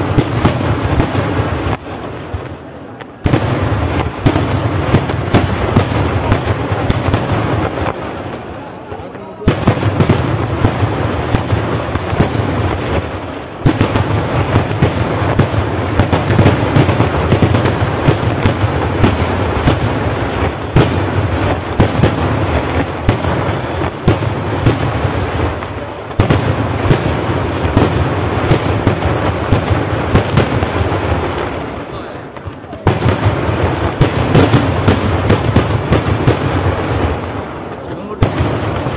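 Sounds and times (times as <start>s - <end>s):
firework barrage of rapid bangs: 0.0s - 38.9s.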